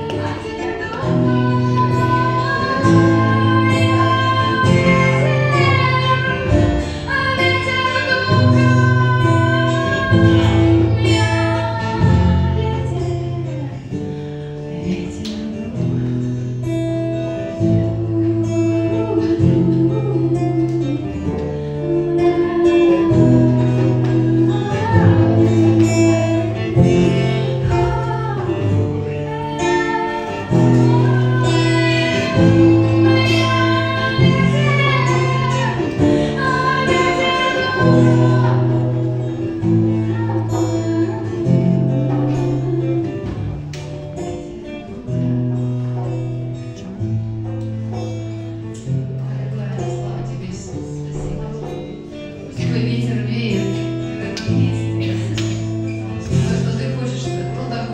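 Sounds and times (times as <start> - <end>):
woman singing: 0.0 - 45.7, 48.8 - 57.9
acoustic guitar chords: 0.0 - 57.9.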